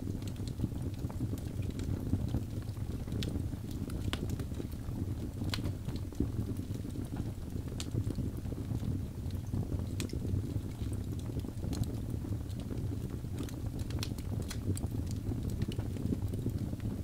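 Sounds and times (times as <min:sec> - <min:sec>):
burning logs crackling and popping: 0:00.0 - 0:17.0
low rumble of flames: 0:00.0 - 0:17.0.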